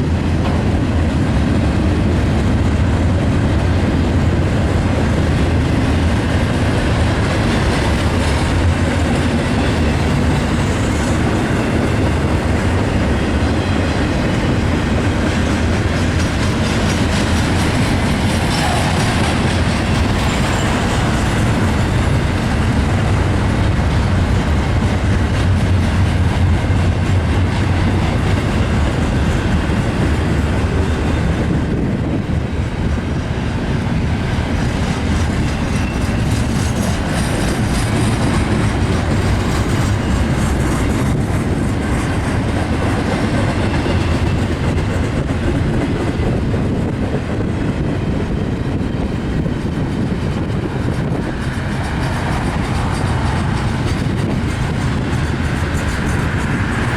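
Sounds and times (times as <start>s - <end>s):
freight train wheels rumbling on rails: 0.0s - 56.9s.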